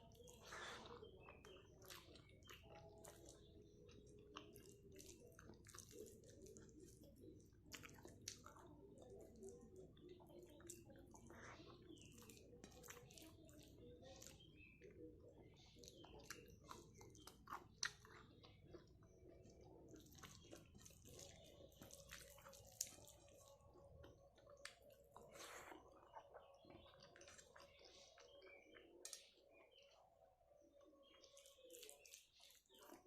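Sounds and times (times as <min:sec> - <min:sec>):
person chewing food: 0:00.0 - 0:30.0, 0:31.0 - 0:33.0.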